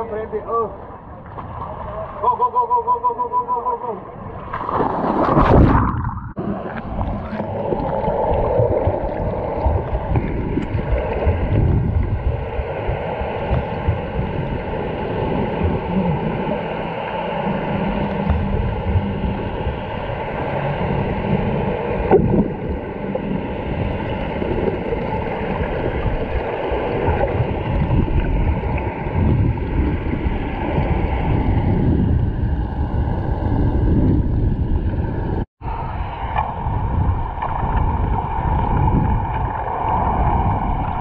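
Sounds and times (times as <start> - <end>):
underwater rush of moving water: 0.7 - 2.4, 4.2 - 41.0.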